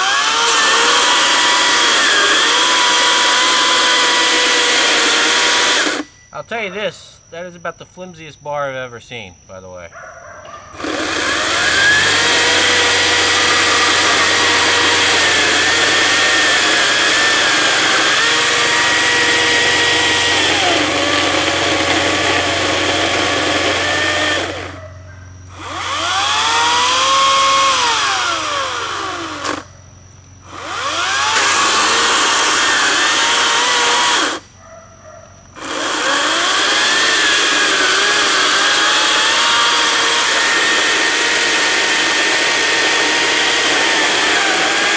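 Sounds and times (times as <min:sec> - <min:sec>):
electric chainsaw cutting log: 0:00.0 - 0:06.1, 0:10.7 - 0:24.8, 0:25.5 - 0:29.7, 0:30.4 - 0:34.5, 0:35.5 - 0:44.9.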